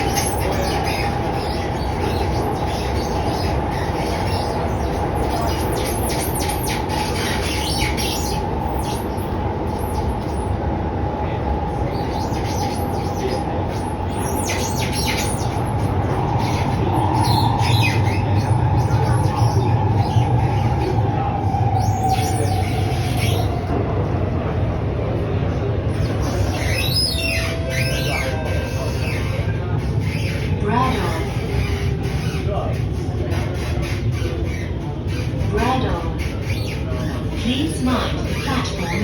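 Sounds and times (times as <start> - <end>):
high-pitched train squeaks: 0.0 - 39.0
metro train running rumble: 0.0 - 39.0.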